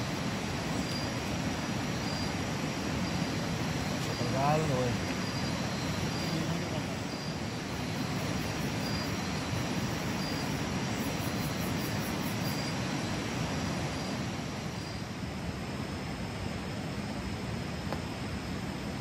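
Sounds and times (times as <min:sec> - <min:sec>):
river rushing in flood: 0:00.0 - 0:19.0.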